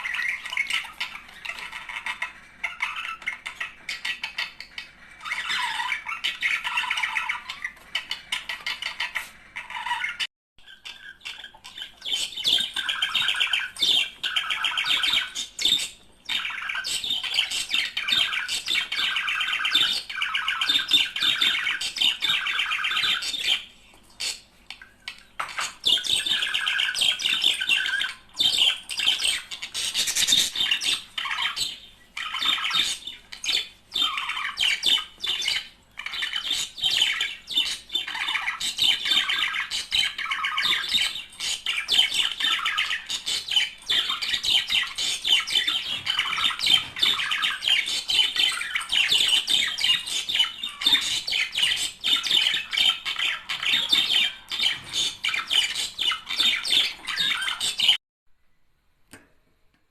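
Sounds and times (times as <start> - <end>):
budgerigars warbling and chattering: 0.0 - 58.0.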